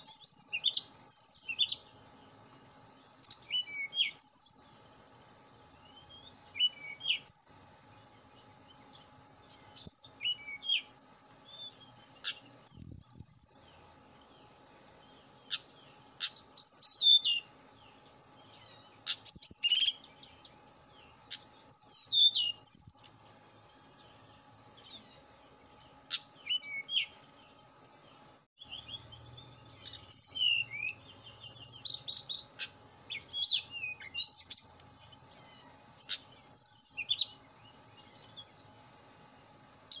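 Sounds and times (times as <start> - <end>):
bird whistling song: 0.0 - 1.8, 2.9 - 4.7, 5.3 - 7.6, 8.4 - 13.8, 15.0 - 23.2, 26.1 - 27.6, 28.6 - 40.0.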